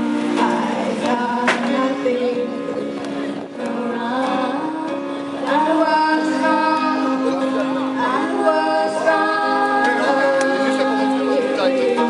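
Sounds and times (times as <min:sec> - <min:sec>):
acoustic guitar: 0:00.0 - 0:12.0
woman singing: 0:00.0 - 0:12.0.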